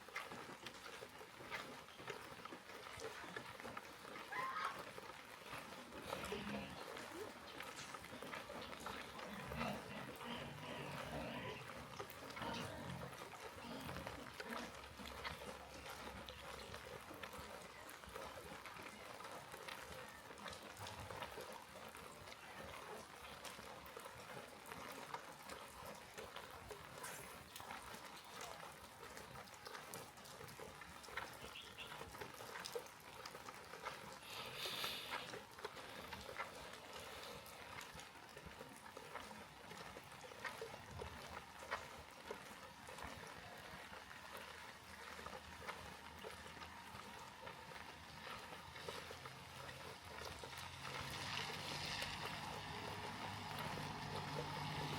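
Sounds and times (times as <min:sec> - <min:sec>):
rain dripping and pattering: 0:00.0 - 0:54.9.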